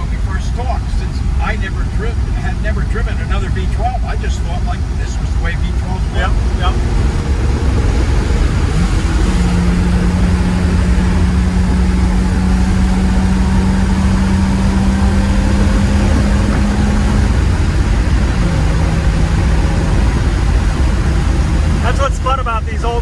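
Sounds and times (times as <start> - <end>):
car engine pulling: 0.0 - 23.0
road rumble: 0.0 - 23.0.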